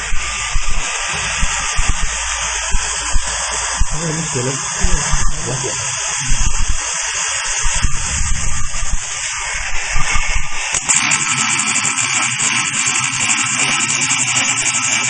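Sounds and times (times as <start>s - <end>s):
stress relief tool hissing buzz: 0.0s - 15.0s.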